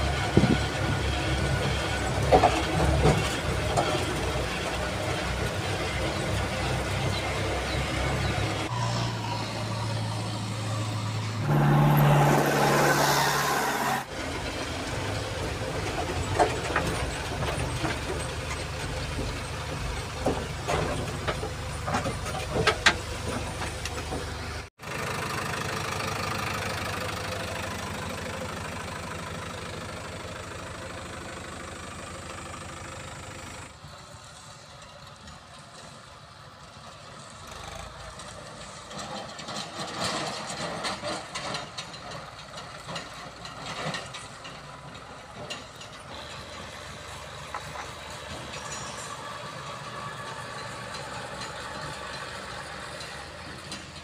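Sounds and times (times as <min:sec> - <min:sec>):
diesel engine running: 0:00.0 - 0:34.8, 0:37.2 - 0:54.0.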